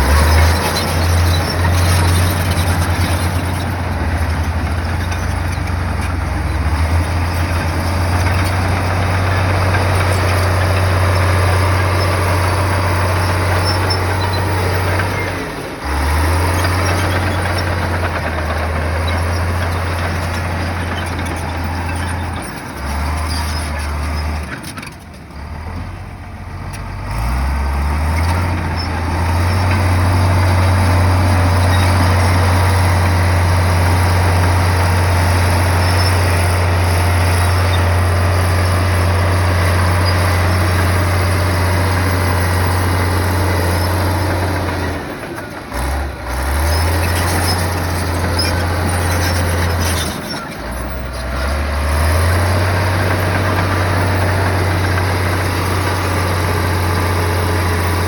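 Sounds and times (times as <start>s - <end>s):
bulldozer diesel engine rumbling: 0.0s - 58.0s.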